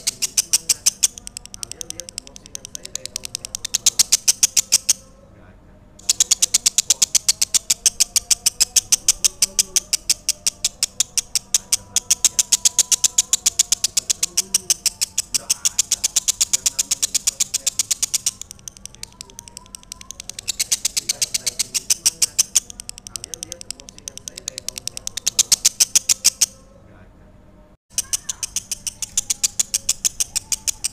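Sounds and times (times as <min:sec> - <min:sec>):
lovebird chattering chirps: 0:00.0 - 0:05.0, 0:06.0 - 0:26.6, 0:27.9 - 0:30.9.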